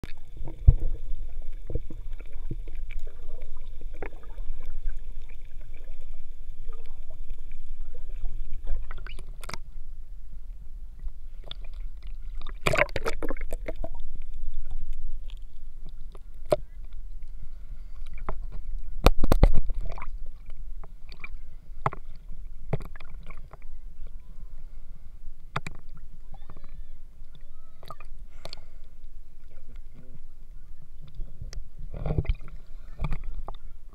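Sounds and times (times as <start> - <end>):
muffled underwater rumble: 0.0 - 33.9.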